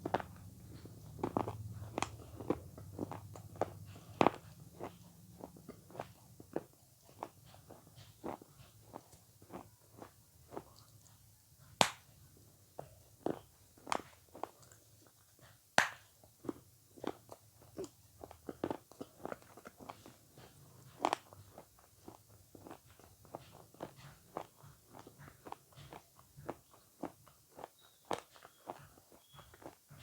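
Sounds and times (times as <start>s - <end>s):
wet chewing mouth clicks: 0.0s - 11.2s, 16.4s - 30.0s.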